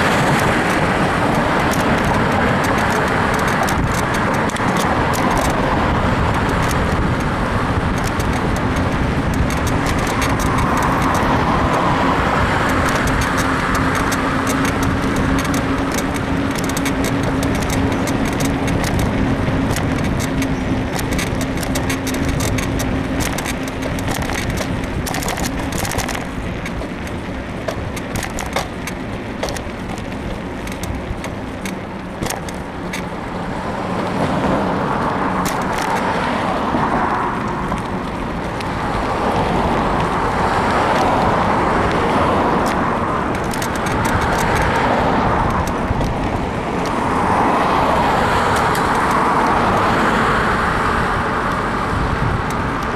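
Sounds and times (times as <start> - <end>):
bike suspension clicks and creaks: 0.0 - 52.9
road traffic: 0.0 - 52.9
wind and road noise: 0.0 - 52.9.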